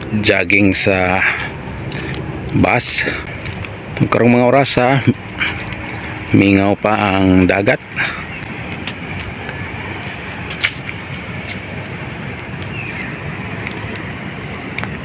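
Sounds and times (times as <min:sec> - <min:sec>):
footsteps on concrete: 0:00.7 - 0:15.0.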